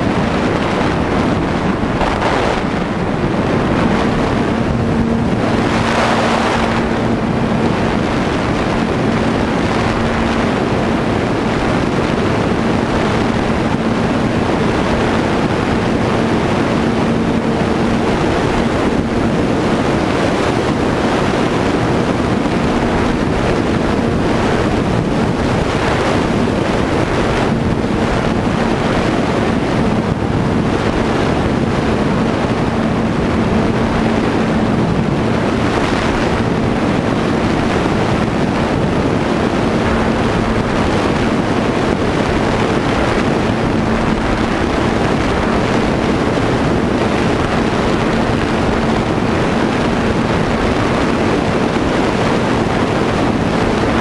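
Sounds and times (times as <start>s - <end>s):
electric motor and propeller hum: 0.0s - 54.0s
wind rushing over microphone: 0.0s - 54.0s.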